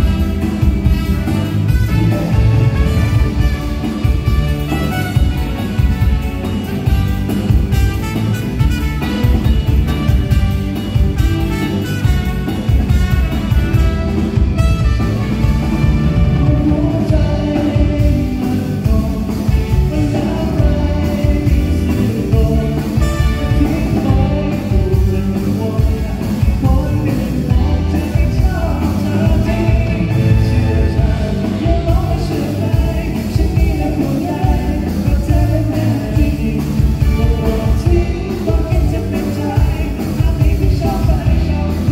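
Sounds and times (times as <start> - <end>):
lead singer: 0.0 - 14.6, 15.2 - 41.9
drums: 0.0 - 41.9
live band music: 0.0 - 41.9.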